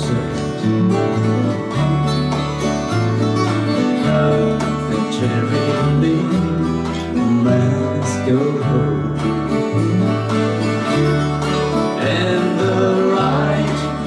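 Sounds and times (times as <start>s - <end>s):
acoustic guitars strumming: 0.0s - 14.0s
bass guitar low notes: 0.0s - 14.0s.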